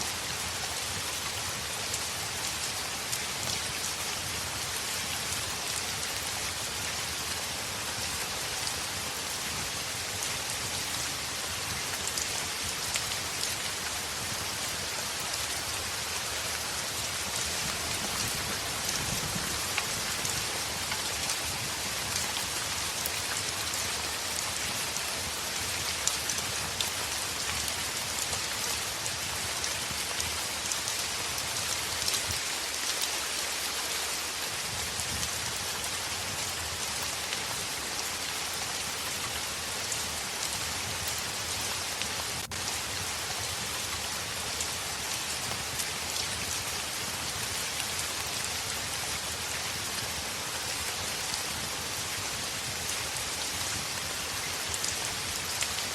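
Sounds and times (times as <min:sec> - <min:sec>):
heavy rain on window: 0:00.4 - 0:55.9.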